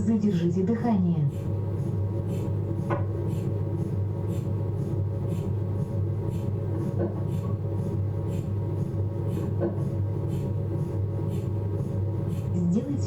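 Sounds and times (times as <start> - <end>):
mri scanner low hum: 0.0 - 13.0.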